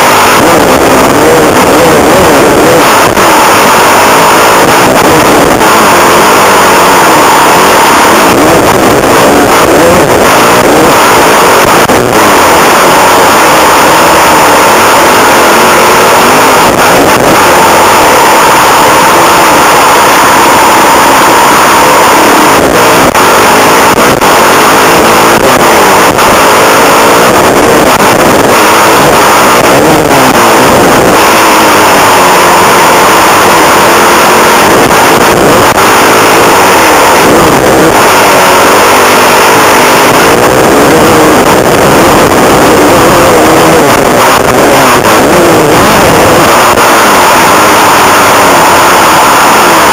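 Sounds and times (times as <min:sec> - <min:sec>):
motocross bike engine revving: 0:00.0 - 0:49.9.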